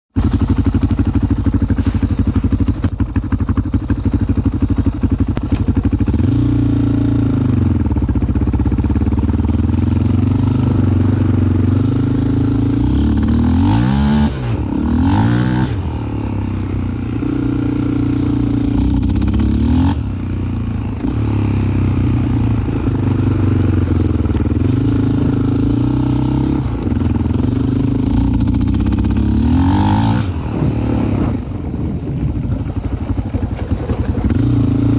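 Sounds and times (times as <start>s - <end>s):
engine revving: 5.4s - 31.7s, 33.0s - 34.9s.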